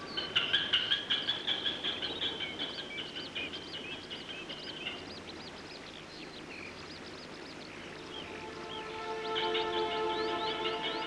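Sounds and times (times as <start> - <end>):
background hiss: 0.0 - 11.0
birds chirping: 0.0 - 11.0.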